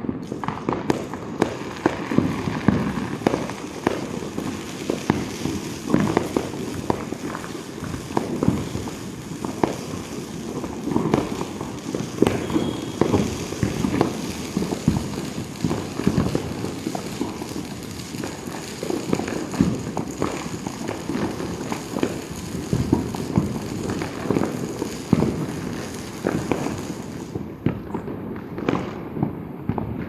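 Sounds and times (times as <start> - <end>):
distant fireworks crackling: 0.0 - 30.0
firecracker bangs and pops: 0.0 - 30.0.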